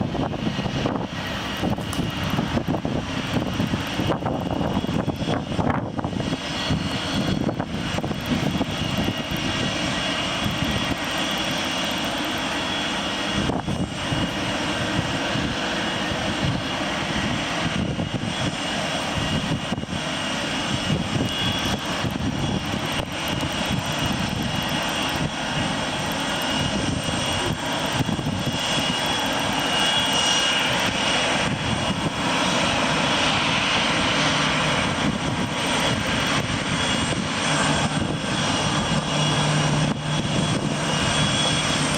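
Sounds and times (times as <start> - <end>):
jet engines running at taxi power: 0.0 - 41.9.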